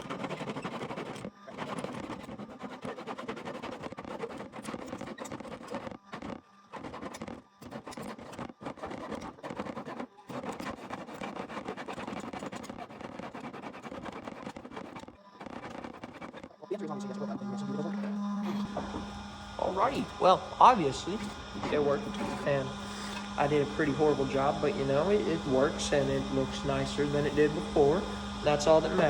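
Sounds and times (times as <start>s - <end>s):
hand saw rasping: 0.0s - 29.0s.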